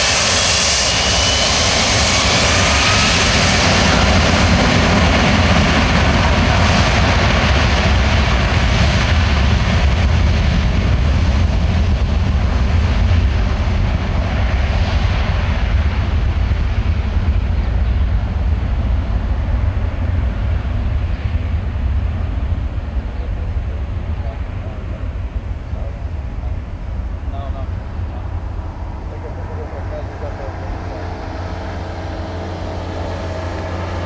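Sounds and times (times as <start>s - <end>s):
jet engine high whine: 0.0s - 34.0s
jet engines deep rumble: 0.0s - 34.0s.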